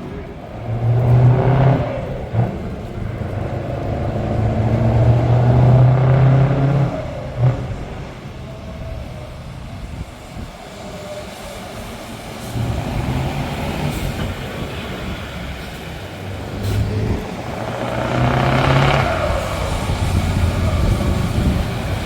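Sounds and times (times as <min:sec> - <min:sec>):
truck engine rumbling: 0:00.0 - 0:22.0.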